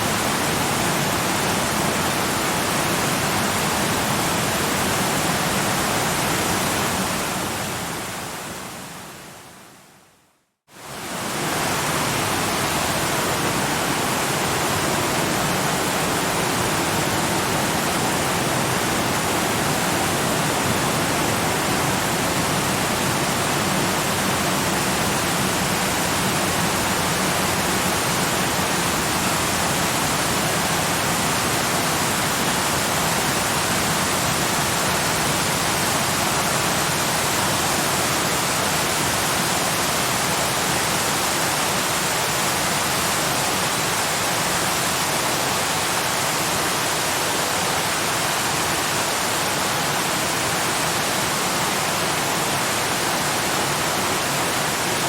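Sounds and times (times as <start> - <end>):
waterfall roaring: 0.0 - 9.3, 10.8 - 55.0.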